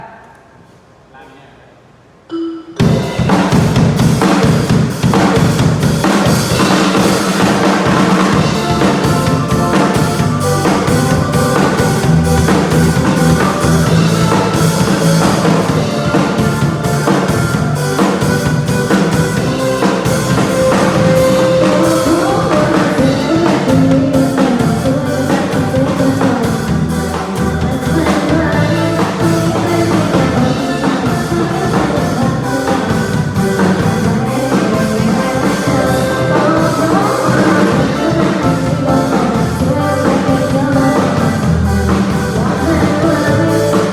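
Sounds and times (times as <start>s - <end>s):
band playing music: 2.8s - 43.9s
drum kit steady beat: 2.8s - 43.9s.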